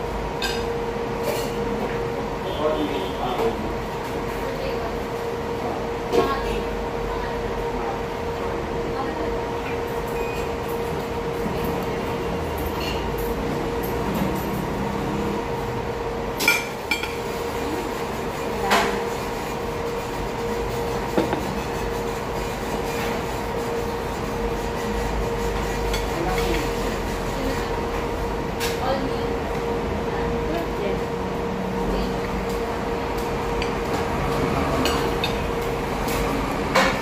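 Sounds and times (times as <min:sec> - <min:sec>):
room hum: 0:00.0 - 0:37.0.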